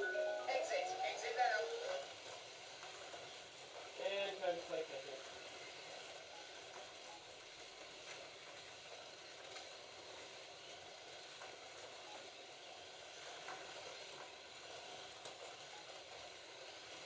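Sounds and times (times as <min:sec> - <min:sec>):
slot car motors whirring: 0:00.0 - 0:17.0.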